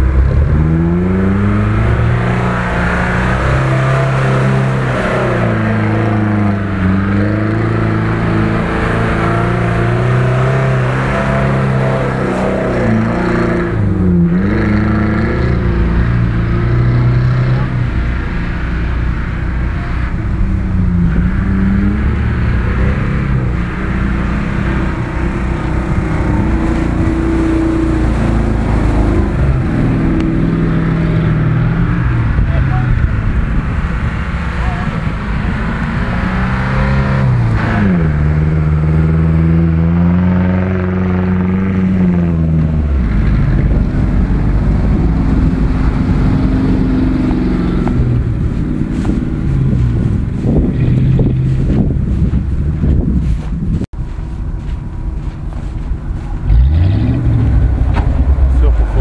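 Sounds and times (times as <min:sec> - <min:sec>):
off-road engine revving: 0:00.0 - 0:59.0.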